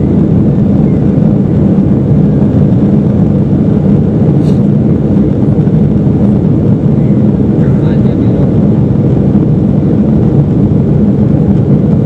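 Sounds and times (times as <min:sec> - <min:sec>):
airliner engine roar in cabin: 0:00.0 - 0:12.0.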